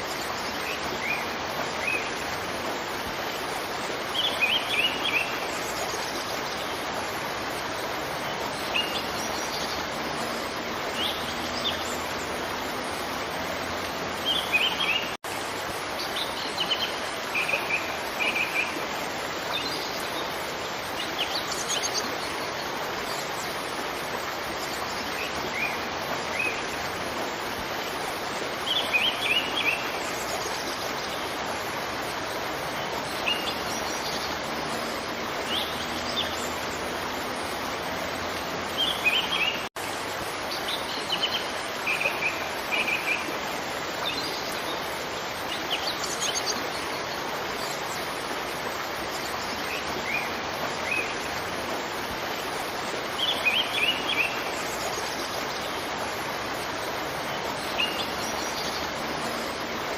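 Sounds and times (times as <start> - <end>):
songbirds chirping: 0.0 - 59.9
waterfall rushing: 0.0 - 59.9.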